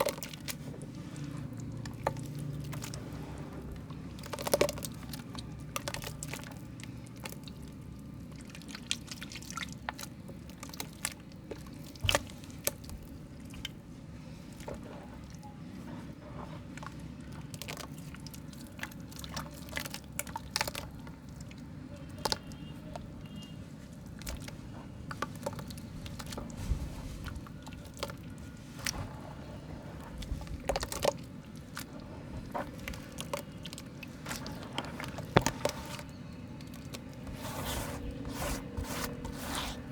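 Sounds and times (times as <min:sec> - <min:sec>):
mud squished by hand: 0:00.0 - 0:39.9.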